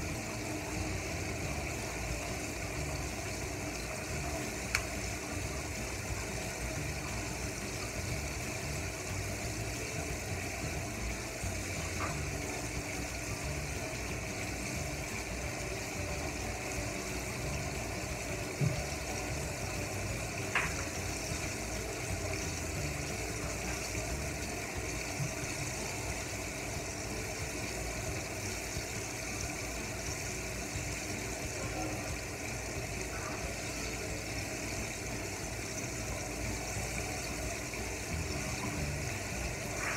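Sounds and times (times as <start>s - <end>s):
oil sizzling and bubbling: 0.0s - 39.9s.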